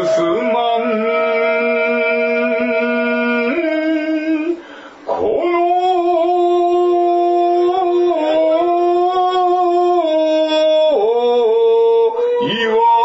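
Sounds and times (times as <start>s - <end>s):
man chanting long drawn-out notes: 0.0s - 13.0s.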